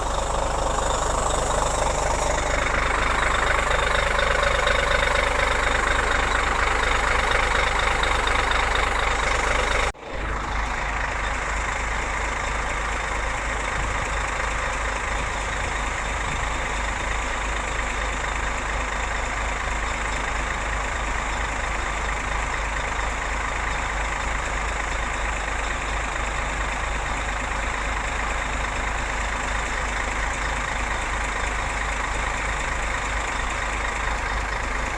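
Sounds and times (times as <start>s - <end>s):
diesel truck engine running: 0.0s - 34.9s
engine drone with low rumble: 0.0s - 34.9s.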